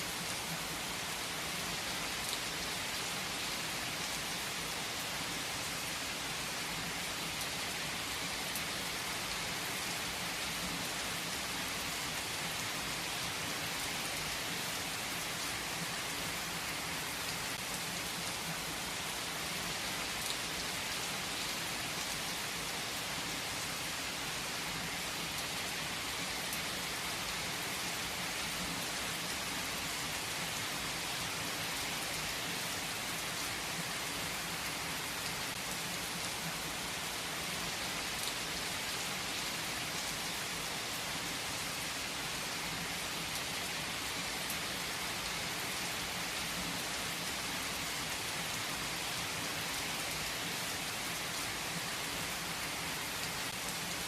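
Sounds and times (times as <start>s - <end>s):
rain on a hard surface: 0.0s - 54.0s.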